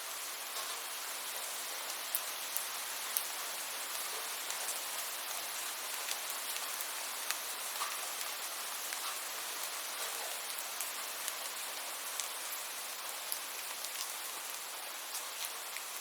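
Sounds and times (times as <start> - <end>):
steady rain hiss: 0.0 - 16.0
sharp ticks of raindrops: 0.4 - 16.0.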